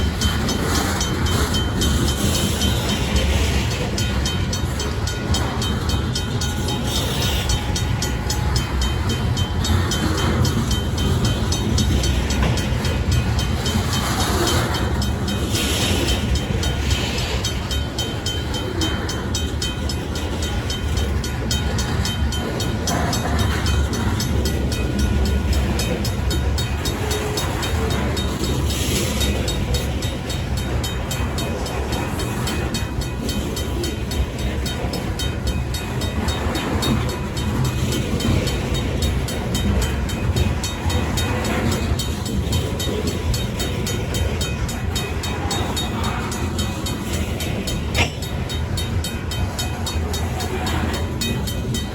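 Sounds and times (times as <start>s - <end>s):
freight train rumbling: 0.0s - 51.9s
mechanical crossing bell ringing: 0.0s - 51.9s.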